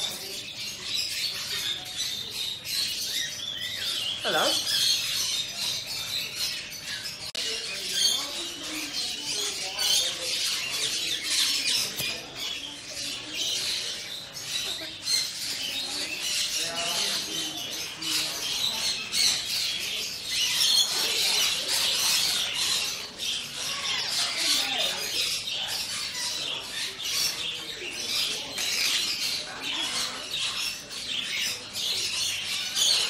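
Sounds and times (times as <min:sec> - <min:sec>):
parrots chattering and squawking: 0:00.0 - 0:33.0.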